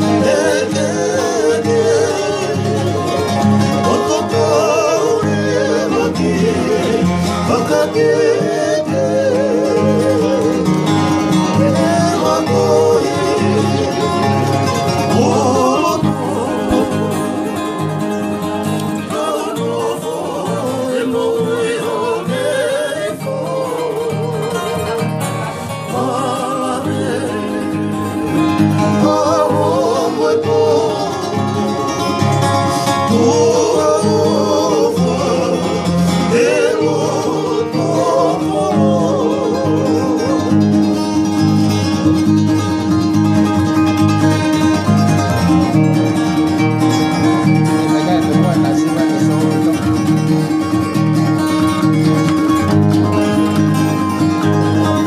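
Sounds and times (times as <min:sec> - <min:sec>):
men singing: 0:00.0 - 0:43.2, 0:43.8 - 0:55.0
acoustic guitars and ukulele strumming: 0:00.0 - 0:55.0.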